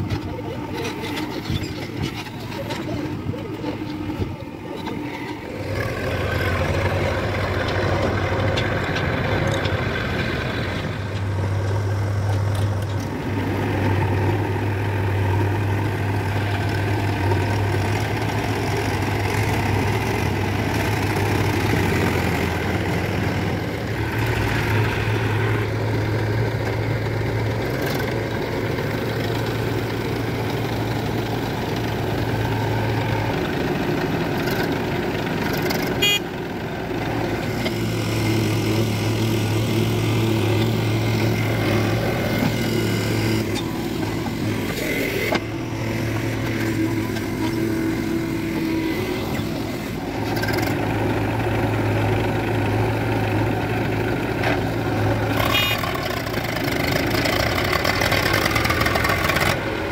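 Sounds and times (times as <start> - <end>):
diesel tractor engines humming: 0.0 - 59.9.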